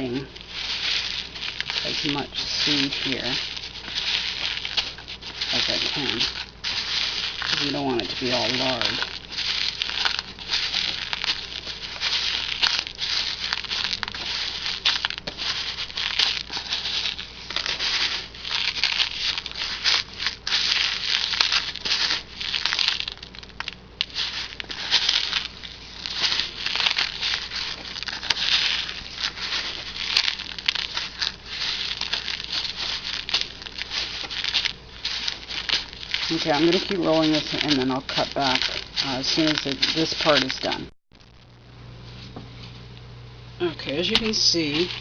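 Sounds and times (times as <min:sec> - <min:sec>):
bird seed rustling in plastic tub: 0:00.0 - 0:40.9, 0:43.9 - 0:45.0.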